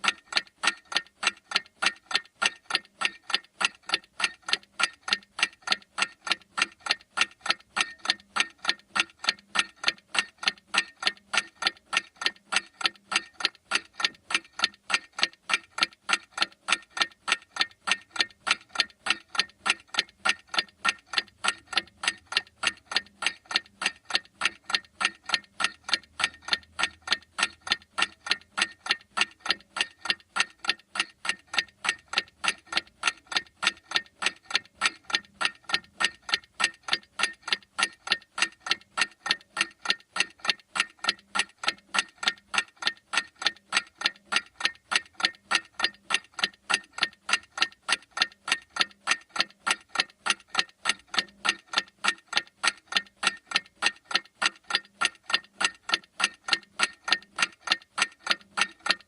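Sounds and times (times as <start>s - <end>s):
clock ticking fast: 0.0s - 59.0s.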